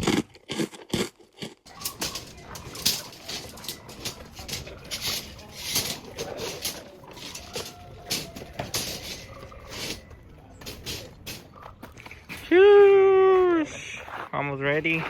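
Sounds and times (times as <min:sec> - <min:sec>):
hand tools scraping gravel: 0:00.0 - 0:12.5, 0:13.9 - 0:15.0.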